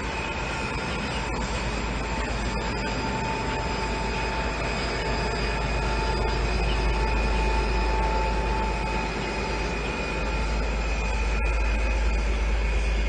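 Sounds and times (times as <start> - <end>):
diesel locomotive: 0.0 - 13.0
high-pitched wheel squeal: 0.0 - 13.0
train rumbling over rails: 0.0 - 13.0.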